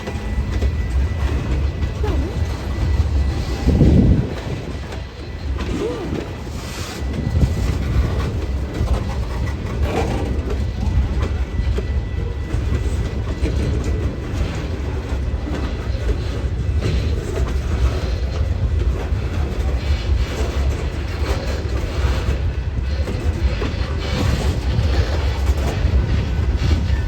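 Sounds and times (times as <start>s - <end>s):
train wheels clicking on rails: 0.0s - 27.0s.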